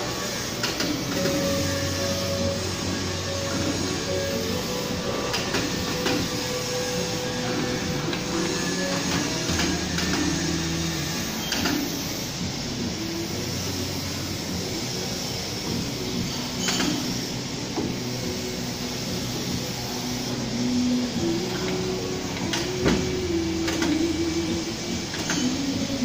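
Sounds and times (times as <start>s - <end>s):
factory machinery hum: 0.0s - 26.0s.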